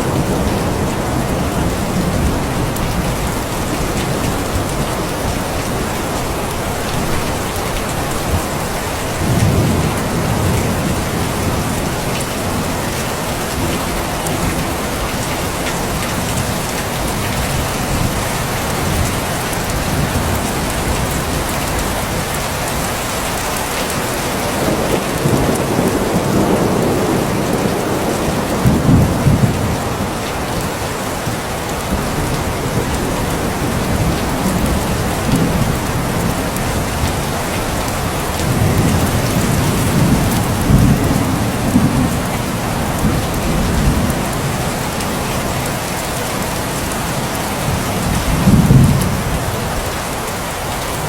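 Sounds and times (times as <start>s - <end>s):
thunder rumbling: 0.0s - 23.3s, 23.9s - 50.1s
steady rain: 0.0s - 51.0s.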